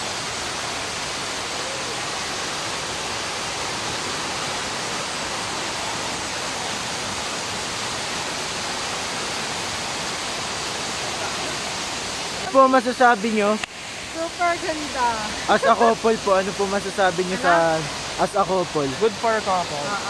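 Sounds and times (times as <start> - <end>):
waterfall rushing over boulders: 0.0 - 20.0.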